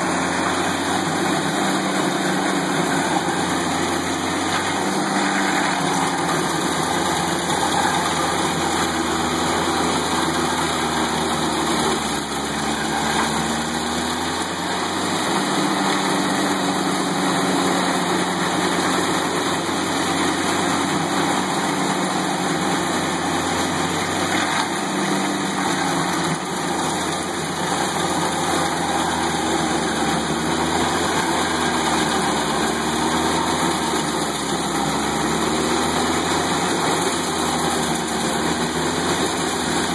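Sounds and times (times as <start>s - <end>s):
cutter wheel grinding stump: 0.0s - 39.9s
engine running under load: 0.0s - 39.9s.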